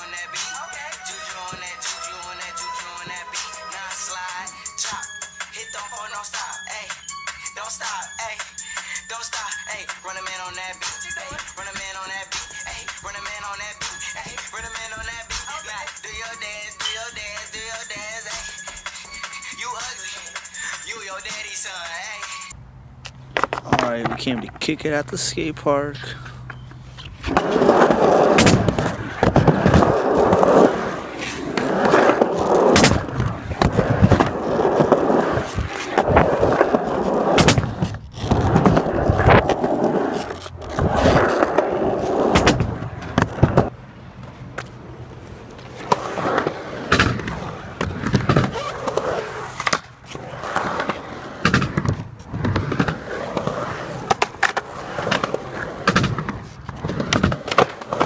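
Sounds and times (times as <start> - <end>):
skateboard wheels on concrete: 0.0 - 58.0
skateboard clacking on ground: 7.7 - 22.4, 23.0 - 58.0.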